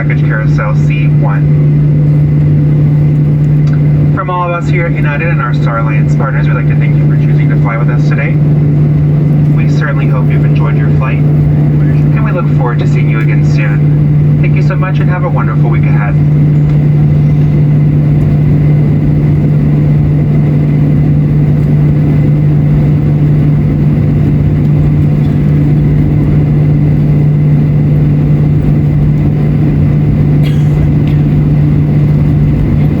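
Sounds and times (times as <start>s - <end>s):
air-conditioning hum: 0.0s - 33.0s
aircraft engines idling: 0.0s - 33.0s.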